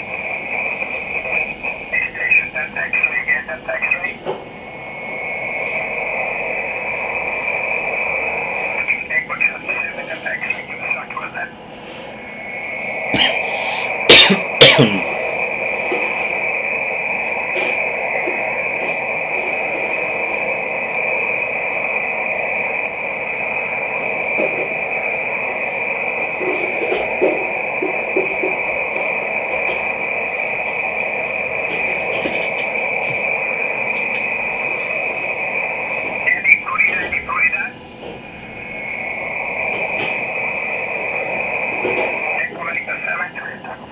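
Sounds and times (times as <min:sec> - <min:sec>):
steady high whistle: 0:00.0 - 0:11.3, 0:12.1 - 0:43.2
loud crackles with falling pitch: 0:00.0 - 0:43.9
radio receiver hiss: 0:00.0 - 0:43.9.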